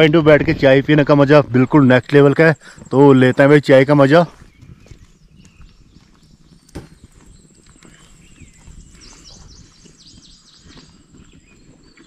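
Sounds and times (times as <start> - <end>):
low crackling rustle: 0.0 - 12.0
wild birds chirping: 0.0 - 12.0.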